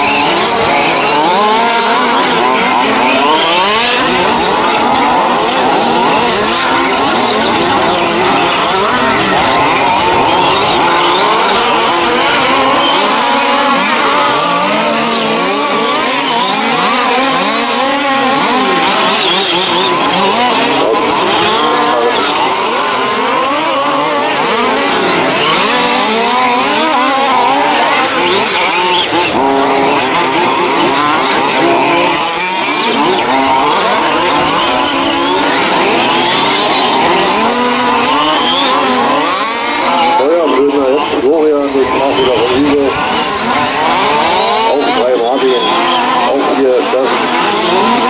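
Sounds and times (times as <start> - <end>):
small engines revving: 0.0 - 48.0.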